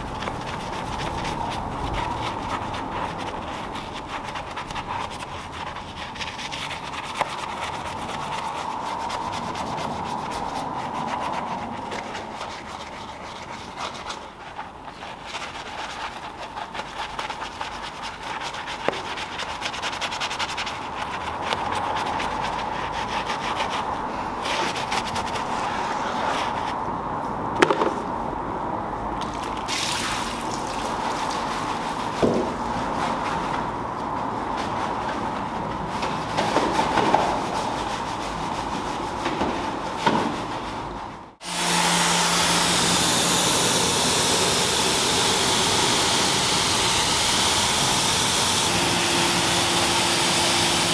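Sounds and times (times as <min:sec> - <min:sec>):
brush scrubbing wet wheel: 0:00.0 - 0:26.8, 0:29.2 - 0:50.9.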